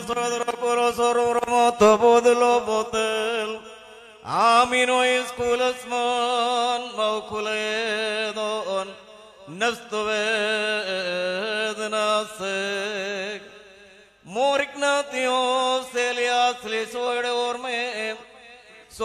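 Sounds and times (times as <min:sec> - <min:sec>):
person chanting a hymn: 0:00.0 - 0:19.0.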